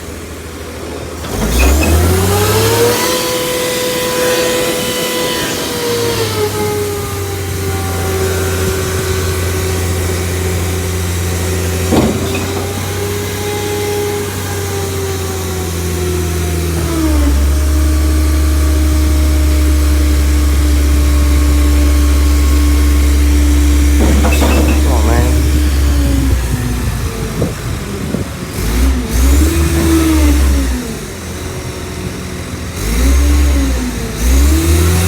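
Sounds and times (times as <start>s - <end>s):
garbage truck engine running: 0.0s - 35.0s
hydraulic whine: 0.1s - 35.0s.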